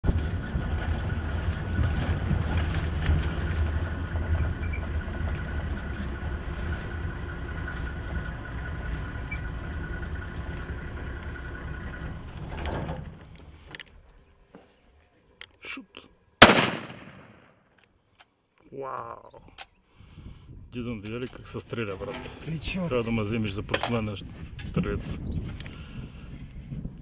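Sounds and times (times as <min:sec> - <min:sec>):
vehicle engine and road rumble: 0:00.0 - 0:15.7, 0:18.8 - 0:27.0.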